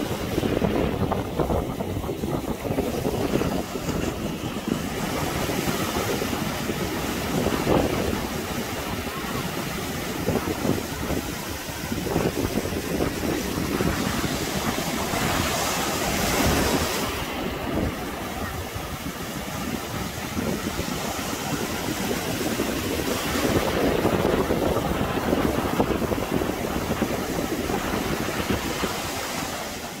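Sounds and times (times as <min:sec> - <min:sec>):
sea surf breaking on beach: 0:00.0 - 0:30.0
wind buffeting microphone: 0:00.0 - 0:30.0.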